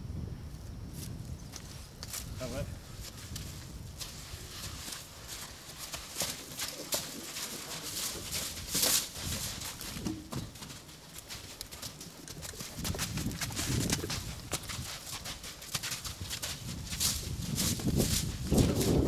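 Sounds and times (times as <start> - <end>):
horses' hooves clopping: 2.9 - 19.0.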